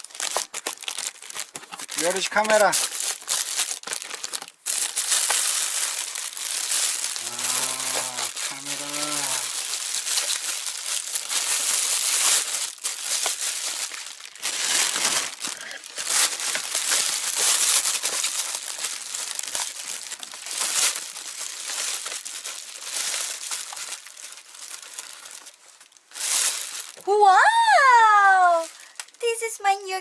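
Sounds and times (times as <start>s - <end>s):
plastic wrapping crinkling: 0.0s - 30.0s.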